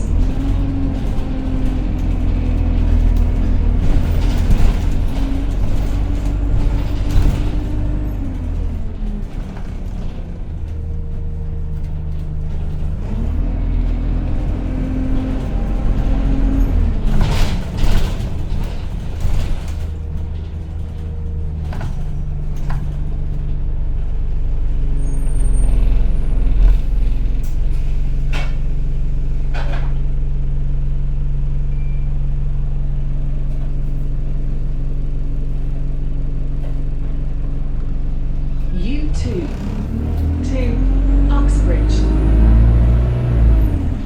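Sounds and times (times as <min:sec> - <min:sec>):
bus engine whining drone: 0:00.0 - 0:44.0.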